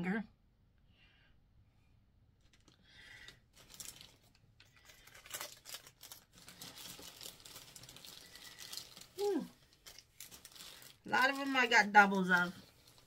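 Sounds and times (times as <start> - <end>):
plastic packaging crinkling: 2.4 - 13.0.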